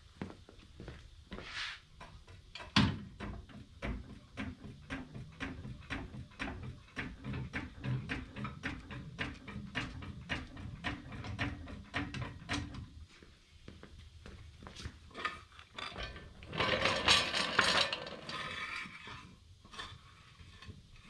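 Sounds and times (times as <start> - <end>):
floor jack clicking and clunking: 2.0 - 13.0, 14.8 - 21.0.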